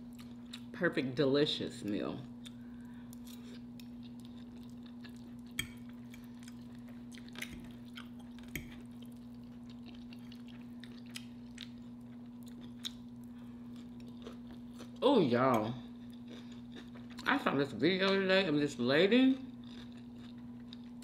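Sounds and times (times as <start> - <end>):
chewing soft food: 0.0 - 0.8, 2.2 - 15.0, 15.6 - 17.5, 19.4 - 21.0
steady low hum: 0.0 - 21.0.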